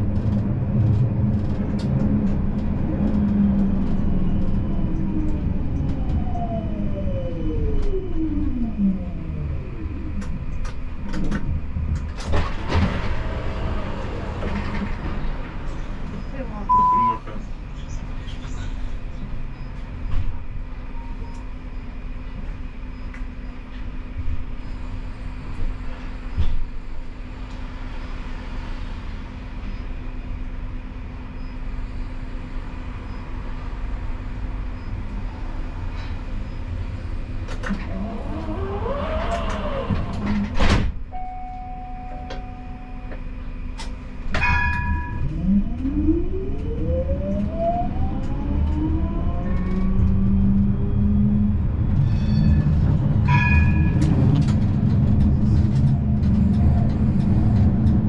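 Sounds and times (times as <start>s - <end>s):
tram running hum: 0.0s - 58.0s.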